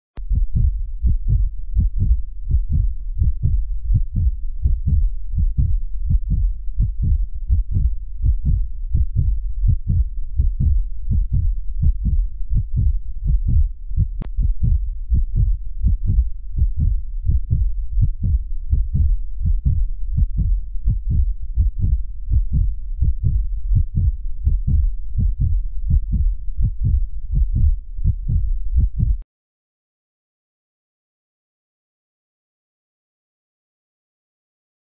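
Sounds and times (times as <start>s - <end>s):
heartbeat: 0.2s - 29.2s.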